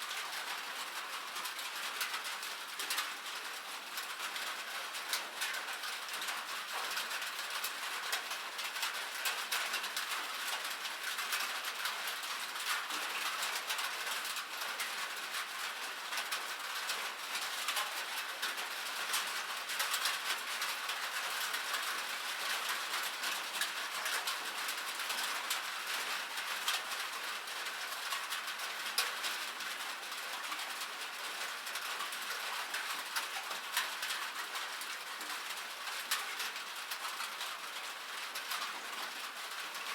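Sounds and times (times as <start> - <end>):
rain pattering on a roof: 0.0 - 39.9.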